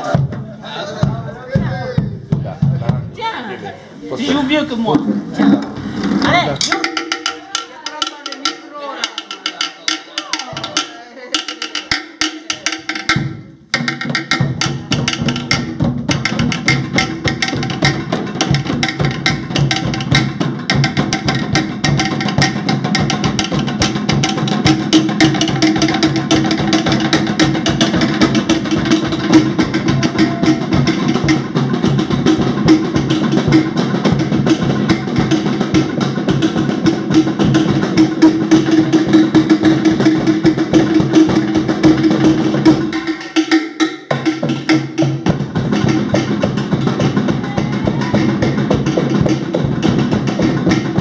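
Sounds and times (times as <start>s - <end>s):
percussion group drumming: 0.0s - 51.0s.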